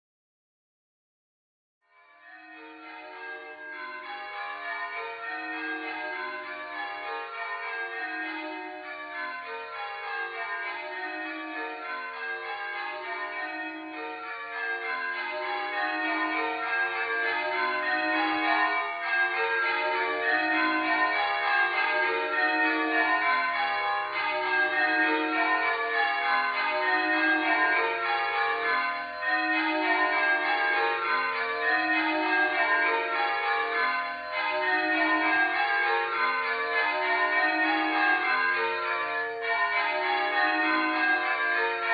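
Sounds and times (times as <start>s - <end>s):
church bells change ringing: 2.2s - 41.9s.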